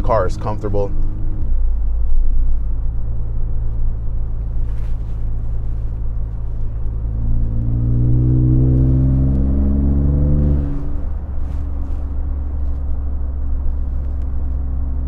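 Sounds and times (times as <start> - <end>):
pickup truck engine and road drone: 0.0 - 15.0.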